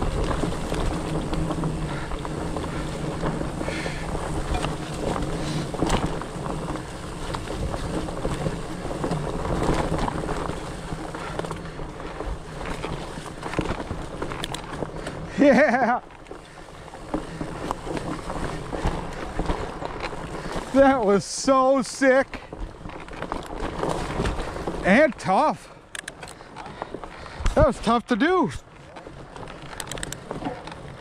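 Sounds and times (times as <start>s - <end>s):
bike clicks and knocks: 0.0s - 27.9s, 28.5s - 31.0s
bike rolling on dirt trail: 0.0s - 31.0s.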